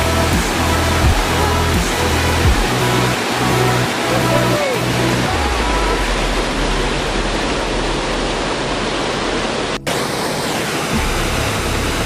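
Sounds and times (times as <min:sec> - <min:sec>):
water rushing over a weir: 0:00.0 - 0:12.0.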